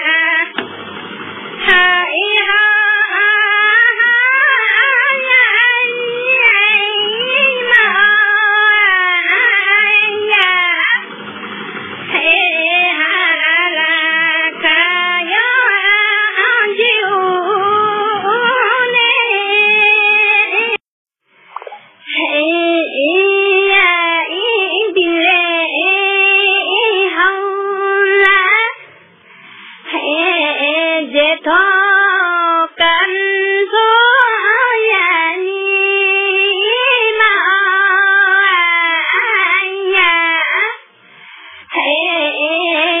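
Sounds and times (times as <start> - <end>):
person singing unaccompanied: 0.0 - 0.8, 1.6 - 11.0, 12.0 - 20.8, 21.6 - 28.8, 29.8 - 40.9, 41.6 - 43.0.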